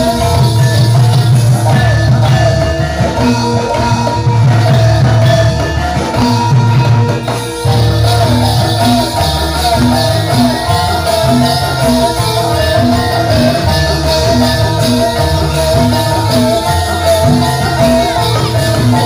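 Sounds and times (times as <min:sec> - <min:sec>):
gamelan ensemble music: 0:00.0 - 0:19.0.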